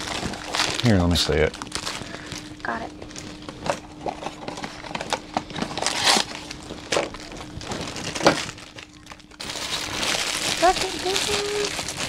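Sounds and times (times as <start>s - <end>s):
foil bags crinkling: 0.0s - 12.0s.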